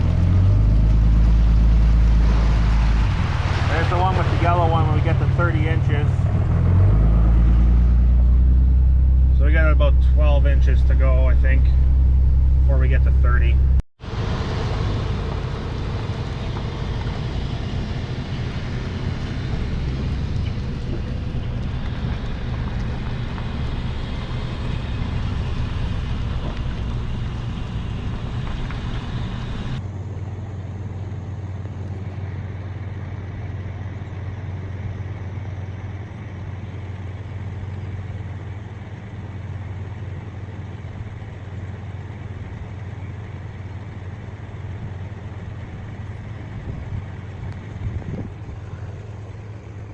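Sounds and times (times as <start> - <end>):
loader engine running: 0.0 - 49.9.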